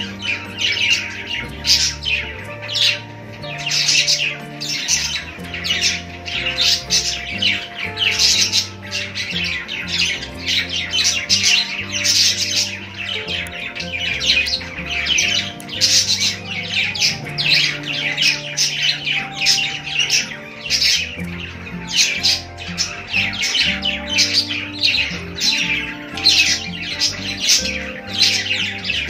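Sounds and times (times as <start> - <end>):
budgies chattering and chirping: 0.0 - 29.0
soft background music: 0.0 - 29.0.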